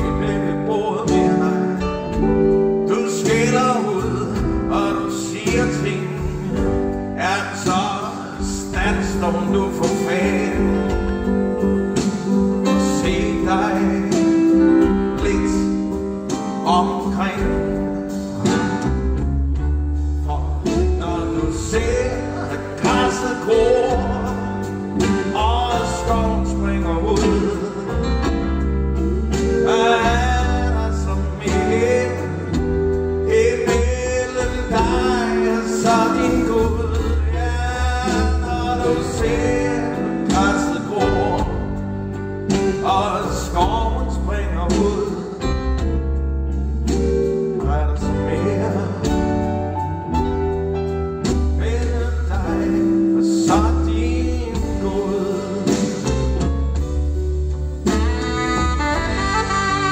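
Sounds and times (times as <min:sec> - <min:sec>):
man singing: 0:00.0 - 0:18.9, 0:20.0 - 0:46.0, 0:46.9 - 0:50.2, 0:51.2 - 0:56.9
band with strong bass line: 0:00.0 - 0:59.9.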